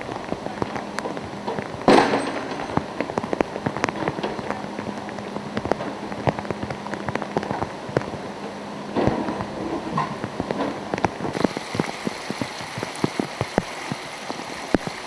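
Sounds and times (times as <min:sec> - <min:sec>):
heavy rain falling: 0:00.0 - 0:15.0
rush of noise: 0:00.0 - 0:15.0.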